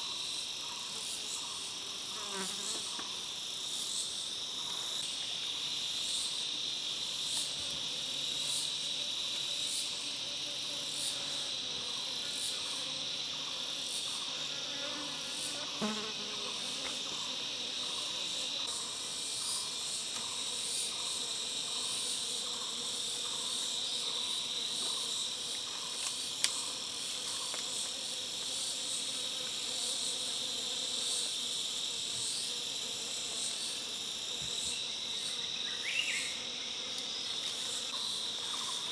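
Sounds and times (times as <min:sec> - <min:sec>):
high insect chirps: 0:00.0 - 0:38.9
insects buzzing: 0:00.0 - 0:38.9.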